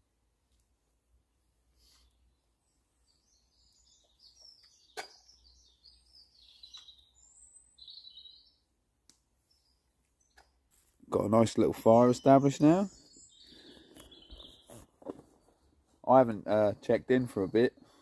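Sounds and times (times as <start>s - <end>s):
faint songbird song: 0.0s - 18.0s.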